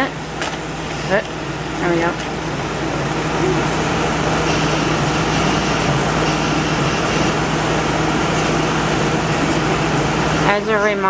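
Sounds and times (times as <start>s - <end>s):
window air conditioner running: 0.0s - 11.0s.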